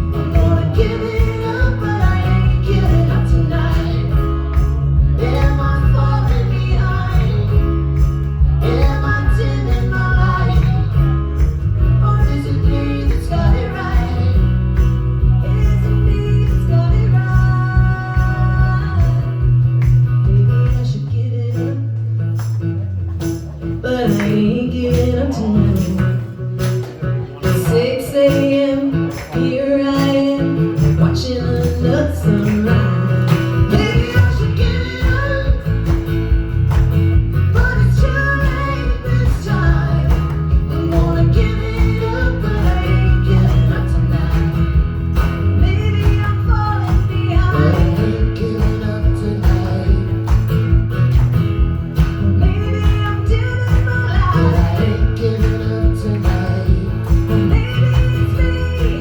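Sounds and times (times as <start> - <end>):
instrumental country-rock band: 0.0 - 59.0.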